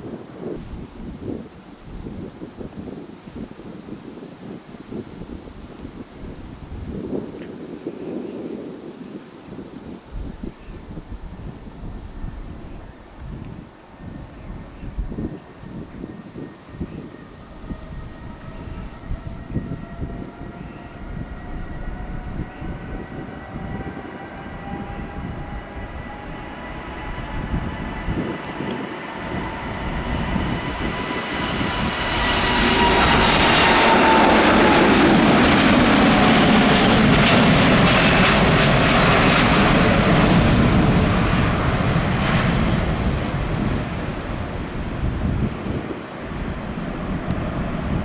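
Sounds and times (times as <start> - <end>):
jet engines roaring: 0.0 - 48.0.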